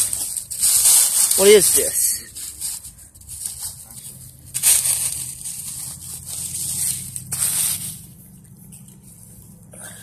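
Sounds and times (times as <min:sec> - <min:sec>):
dry leaves and twigs crunching: 0:00.0 - 0:09.6.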